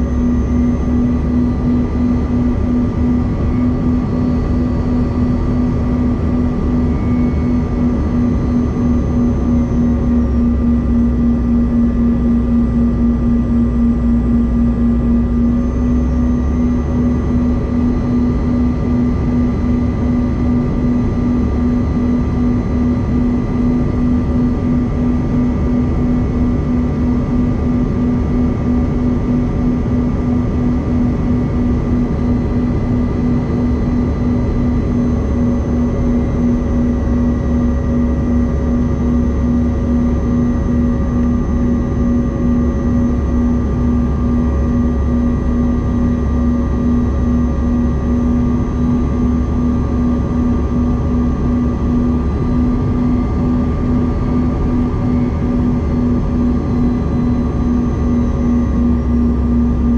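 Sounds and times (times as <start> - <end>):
constant droning tone: 0.0 - 59.9.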